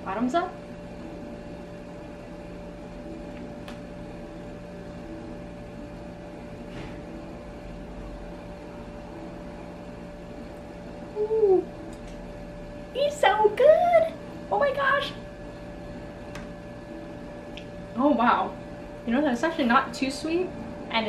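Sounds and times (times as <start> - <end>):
steady room hum: 0.0 - 21.0.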